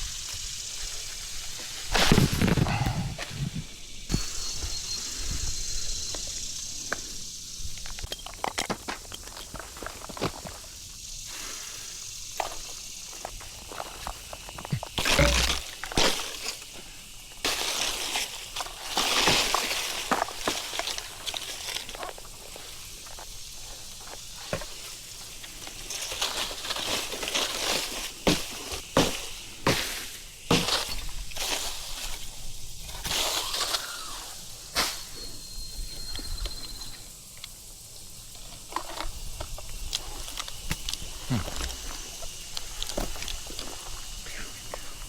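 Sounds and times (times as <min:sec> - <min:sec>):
brush and branches rustling: 0:00.0 - 0:08.2, 0:12.0 - 0:35.2, 0:36.9 - 0:45.0.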